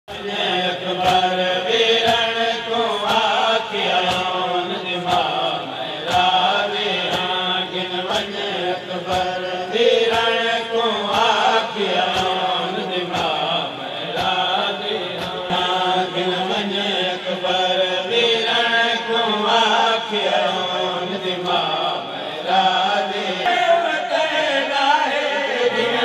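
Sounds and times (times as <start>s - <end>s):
men chanting a lament: 0.1s - 26.0s.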